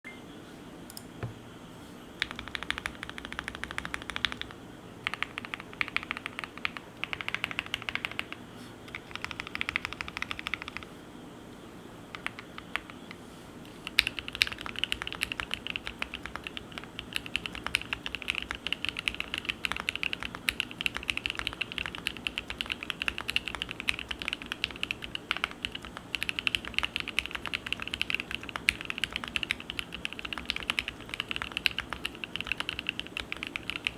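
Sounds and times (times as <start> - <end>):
mechanical keyboard typing: 2.2 - 10.9, 12.1 - 13.1, 13.8 - 33.9.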